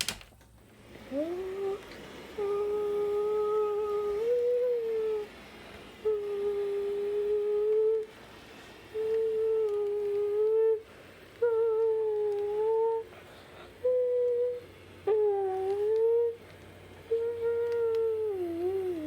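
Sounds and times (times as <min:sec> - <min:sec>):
child humming long notes: 0:01.0 - 0:08.1, 0:08.9 - 0:19.0.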